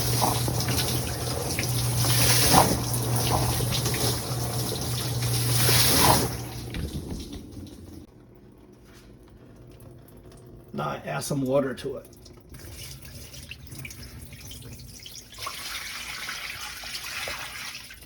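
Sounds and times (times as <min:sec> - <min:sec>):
water dripping: 0:00.0 - 0:08.1, 0:09.4 - 0:18.0
water spraying inside dishwasher: 0:00.0 - 0:08.1, 0:10.8 - 0:18.0
dishwasher humming: 0:00.0 - 0:18.0.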